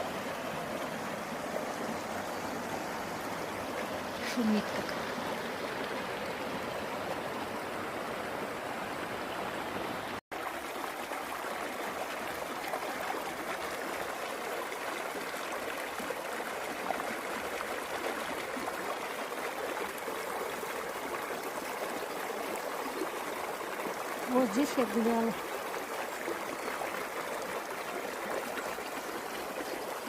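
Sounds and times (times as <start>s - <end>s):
mountain river rushing: 0.0s - 30.0s.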